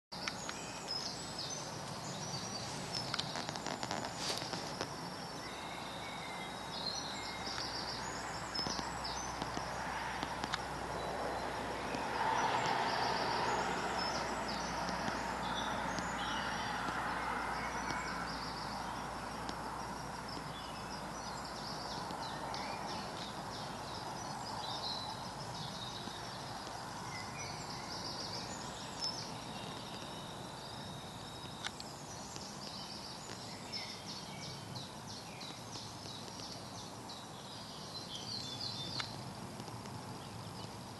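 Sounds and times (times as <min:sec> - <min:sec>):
songbirds chirping and trilling: 0:00.1 - 0:40.9.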